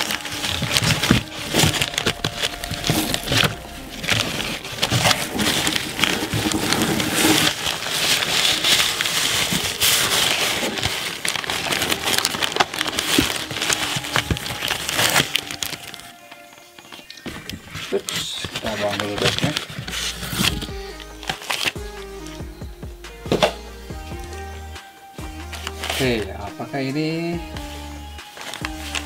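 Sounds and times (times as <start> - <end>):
paper rustling and crinkling: 0.0 - 22.3, 25.5 - 27.1, 27.7 - 29.0.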